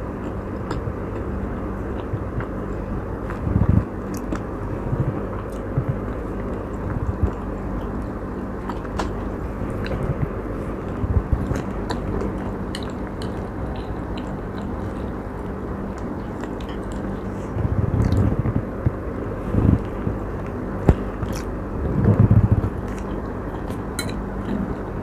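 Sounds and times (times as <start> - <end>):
steady background hum: 0.0 - 25.0
person chewing food: 0.1 - 25.0.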